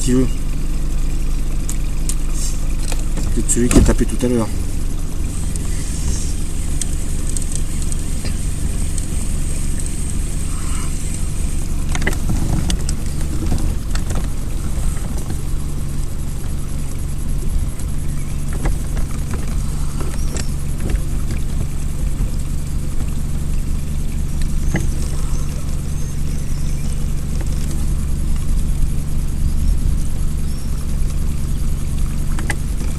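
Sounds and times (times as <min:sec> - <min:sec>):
boat motor humming: 0:00.0 - 0:32.9.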